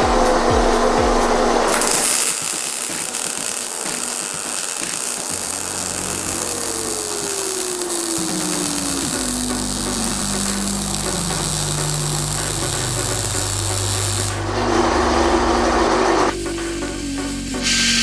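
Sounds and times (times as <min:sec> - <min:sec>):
background music: 0:00.0 - 0:18.0
welding arc crackling: 0:01.7 - 0:18.0.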